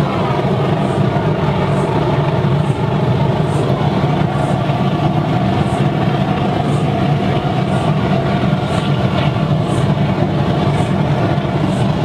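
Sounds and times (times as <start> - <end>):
oil burner and blower roaring: 0.0 - 12.0.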